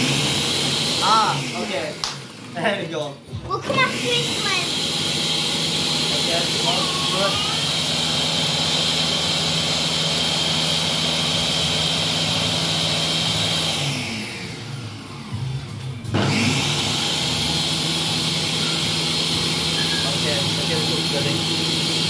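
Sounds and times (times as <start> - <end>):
blender motor running: 0.0 - 2.8, 3.6 - 22.0.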